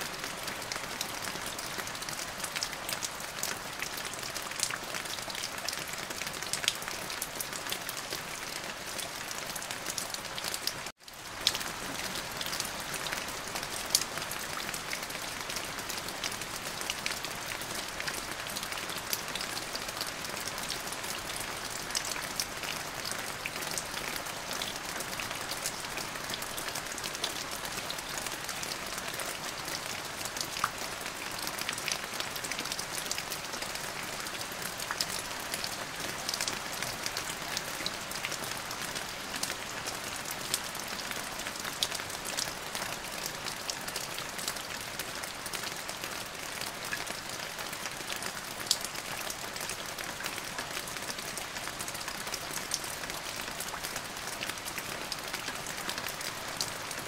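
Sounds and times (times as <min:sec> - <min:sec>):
rain falling on a surface: 0:00.0 - 0:57.0.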